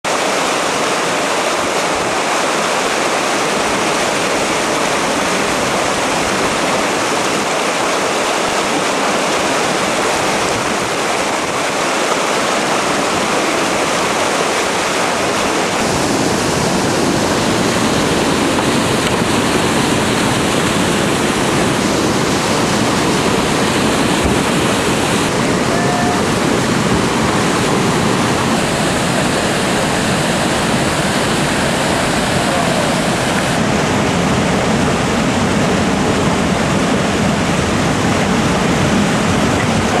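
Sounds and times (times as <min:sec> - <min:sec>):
whitewater rushing over rocks: 0:00.0 - 0:40.0.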